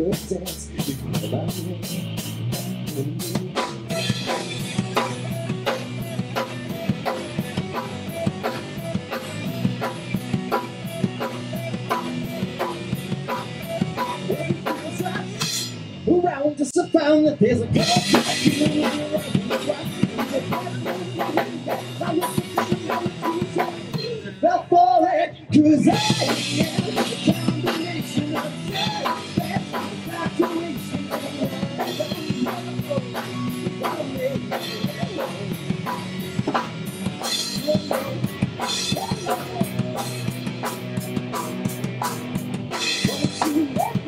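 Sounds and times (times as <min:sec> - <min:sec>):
drums: 0:00.0 - 0:44.0
live rock band playing: 0:00.0 - 0:44.0.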